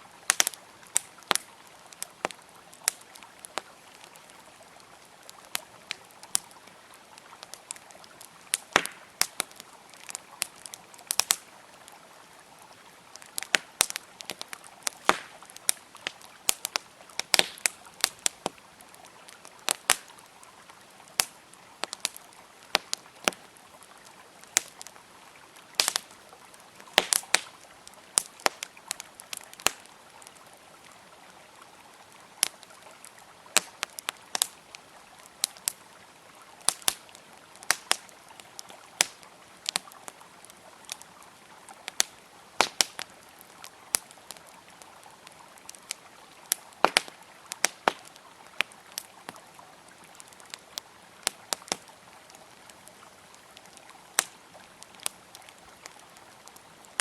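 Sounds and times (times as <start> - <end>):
river flowing: 0.0 - 57.0
campfire crackling and popping: 0.1 - 57.0.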